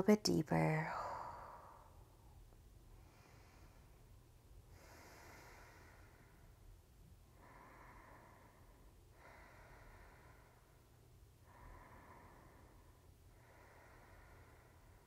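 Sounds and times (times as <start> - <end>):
faint low hum: 0.0 - 15.0
slow deep breathing: 0.9 - 2.3, 3.0 - 15.0.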